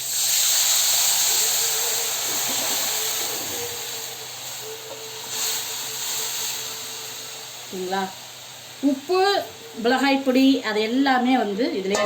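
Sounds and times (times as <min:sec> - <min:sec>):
pickle sizzling in hot oil: 0:00.0 - 0:12.0.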